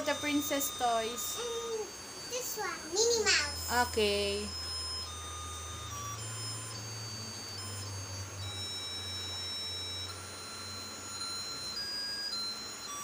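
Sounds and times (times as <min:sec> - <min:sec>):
electronic beeping melody: 0:00.0 - 0:13.0
low steady hum: 0:00.0 - 0:13.0.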